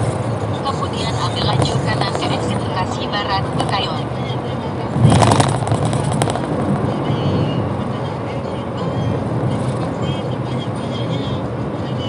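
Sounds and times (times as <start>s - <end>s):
car road noise at speed: 0.0s - 12.0s.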